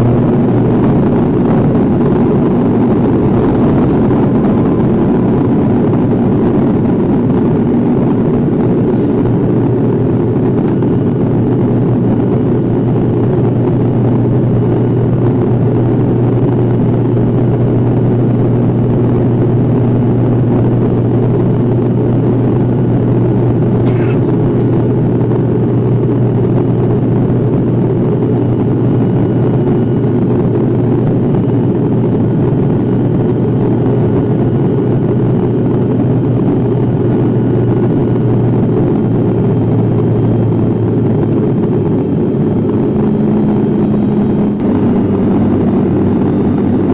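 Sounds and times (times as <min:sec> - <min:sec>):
airliner engines droning in cabin: 0:00.0 - 0:46.9.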